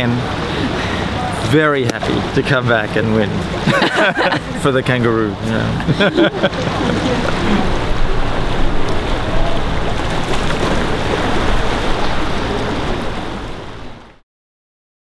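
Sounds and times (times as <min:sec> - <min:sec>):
waves washing over rocks: 0:00.0 - 0:14.2.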